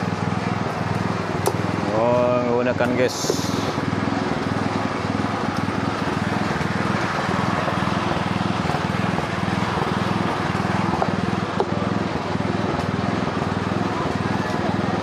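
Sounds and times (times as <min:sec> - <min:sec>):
small engine throbbing drone: 0:00.0 - 0:15.0.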